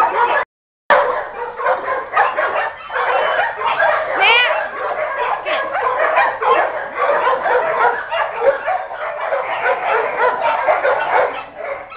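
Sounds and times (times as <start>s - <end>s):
many dogs barking: 0.0s - 11.9s.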